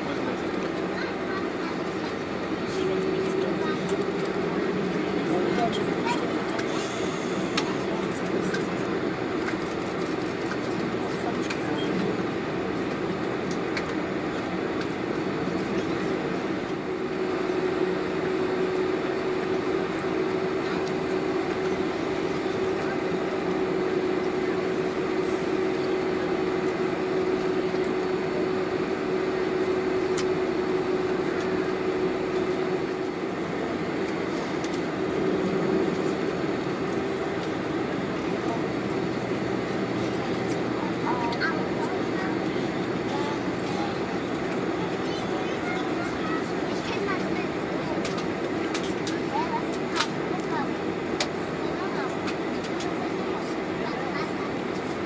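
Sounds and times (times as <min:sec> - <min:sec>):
airplane cabin noise taxiing: 0:00.0 - 0:55.0.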